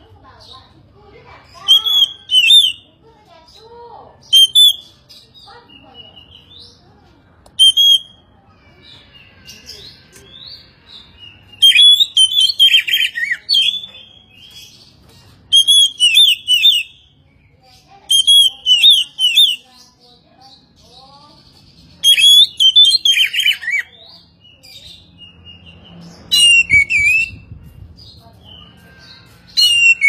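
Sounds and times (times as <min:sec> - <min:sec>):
bird singing warbling phrases: 0:00.0 - 0:30.0.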